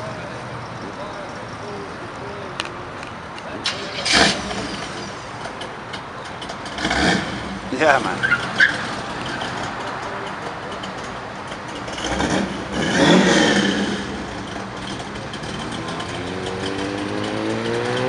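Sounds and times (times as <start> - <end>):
car engines running: 0.0 - 18.0
car passing close: 3.5 - 18.0.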